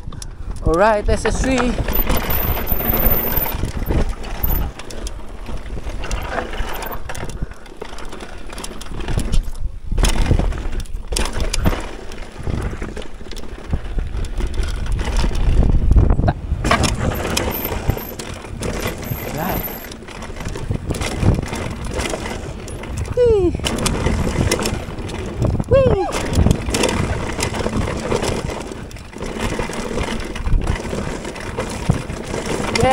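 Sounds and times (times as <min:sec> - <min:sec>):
bike knocks and rattles: 0:00.0 - 0:32.9.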